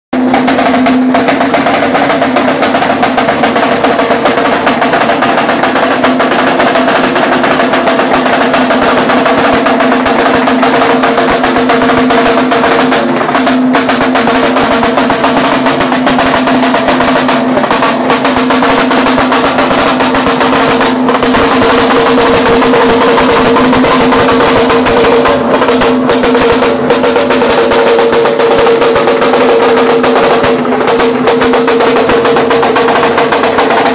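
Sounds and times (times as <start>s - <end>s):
drum rapid roll with sticks: 0.1s - 33.9s.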